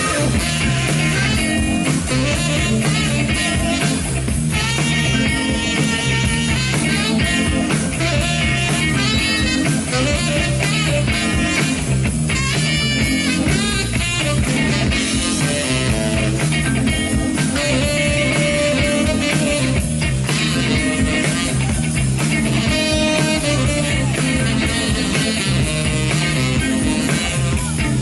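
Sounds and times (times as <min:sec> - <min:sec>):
live band playing soul-rock: 0:00.0 - 0:28.0.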